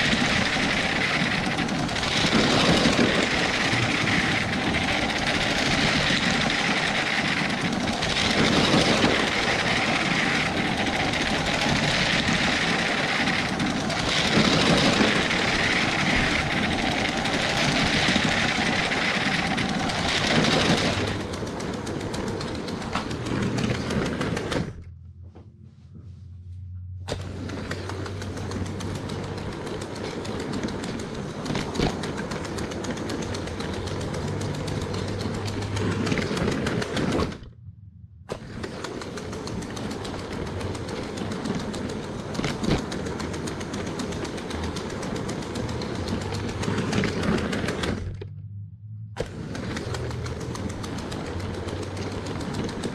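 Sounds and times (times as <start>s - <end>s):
toy train motor whirring: 0.0s - 24.7s, 27.1s - 37.4s, 38.3s - 48.0s, 49.2s - 52.9s
wheel clatter on track: 0.0s - 25.0s, 27.0s - 37.6s, 38.3s - 48.6s, 49.2s - 52.9s
low hum: 0.0s - 52.9s.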